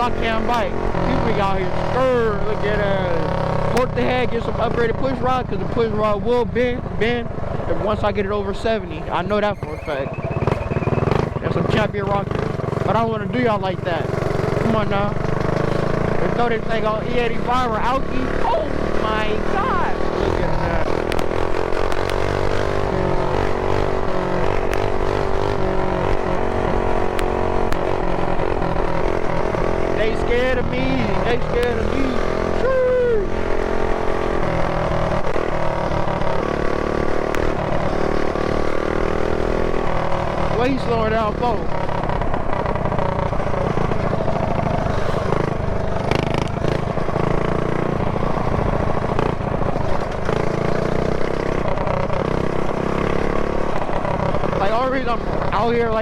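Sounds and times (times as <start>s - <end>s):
mini bike engine at high revs: 0.0s - 56.0s
road rumble: 0.0s - 56.0s.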